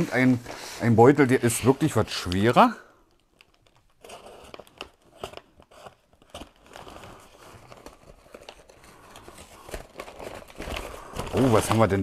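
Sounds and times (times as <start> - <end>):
paper bag rustling and crinkling: 0.0 - 2.8, 3.4 - 12.0.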